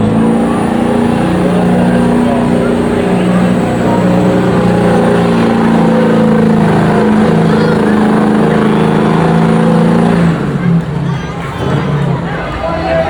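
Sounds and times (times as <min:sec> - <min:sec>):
truck engine at full throttle: 0:00.0 - 0:13.0.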